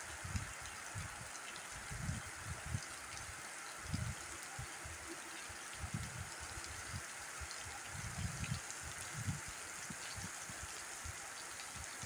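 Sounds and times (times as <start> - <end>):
steady rain on ground: 0.0 - 12.0.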